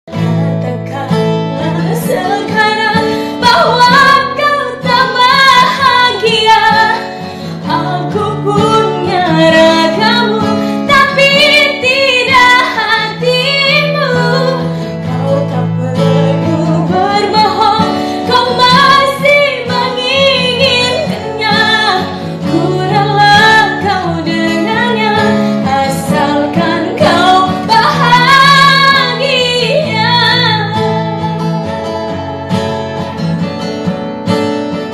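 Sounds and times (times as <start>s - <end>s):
guitar backing: 0.0s - 34.9s
woman singing: 0.1s - 33.5s.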